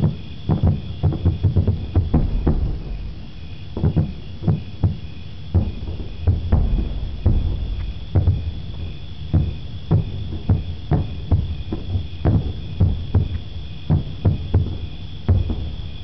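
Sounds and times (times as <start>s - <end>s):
distant firework booms: 0.0s - 16.0s.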